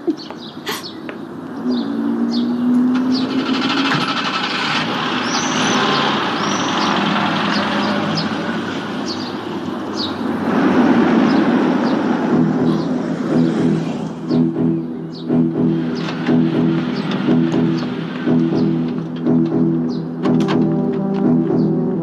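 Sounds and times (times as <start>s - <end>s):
birds chirping: 0.0s - 22.0s
street traffic: 0.0s - 22.0s
car driving past: 1.5s - 21.6s.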